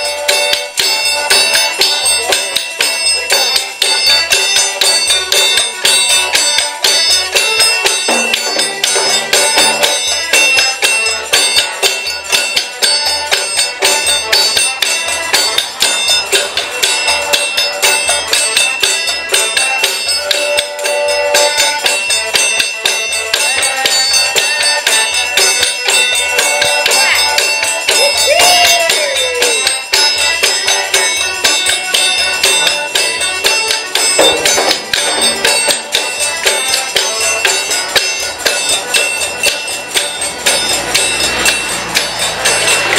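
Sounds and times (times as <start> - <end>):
frame drum: 0.0 - 42.9
shaken hand percussion: 0.0 - 42.9.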